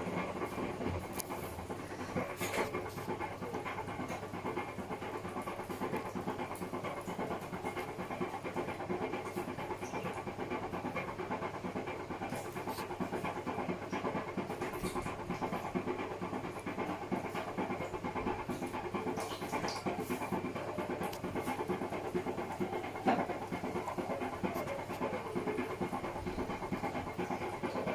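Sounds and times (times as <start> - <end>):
washing machine running: 0.0 - 27.9.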